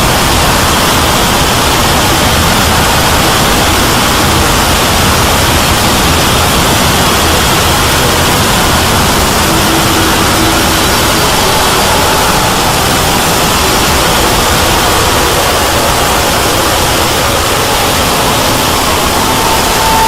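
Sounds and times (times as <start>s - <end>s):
faint steady tones: 0.0s - 20.0s
loud static hiss: 0.0s - 20.0s.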